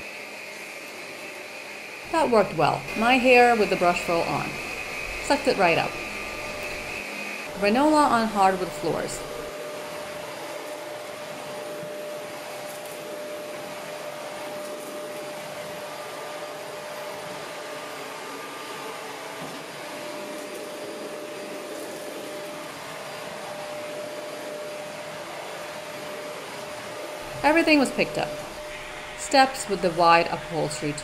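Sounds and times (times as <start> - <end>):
vacuum cleaner motor whine: 0.0 - 31.0.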